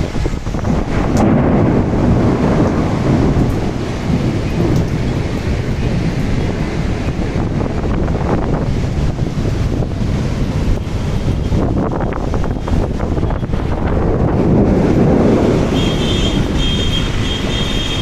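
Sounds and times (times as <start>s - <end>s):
heavy rain: 0.0s - 18.0s
low rumble of thunder: 0.0s - 18.0s.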